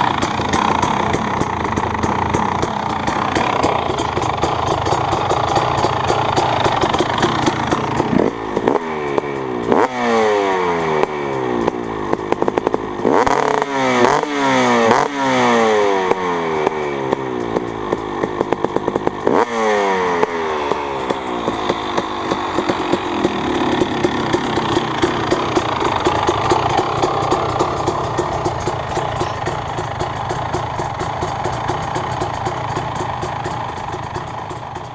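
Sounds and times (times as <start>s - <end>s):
dirt bike engine idling and revving: 0.0s - 34.9s.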